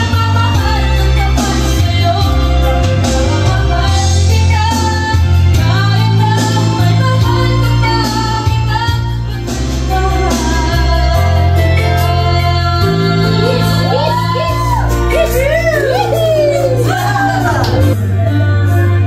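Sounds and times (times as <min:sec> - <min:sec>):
karaoke backing track with bass: 0:00.0 - 0:19.0.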